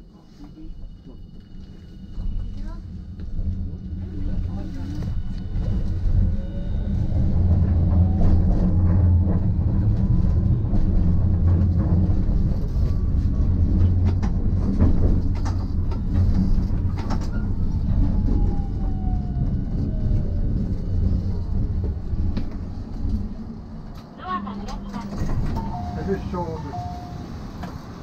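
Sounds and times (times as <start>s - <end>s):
tram rumbling on rails: 0.0s - 28.0s
wheels clacking on rails: 2.0s - 28.0s.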